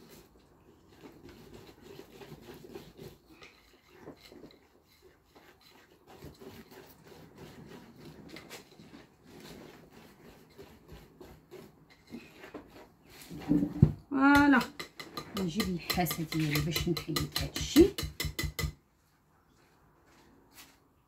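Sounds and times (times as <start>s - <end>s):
whisk scraping bowl: 0.0s - 18.7s.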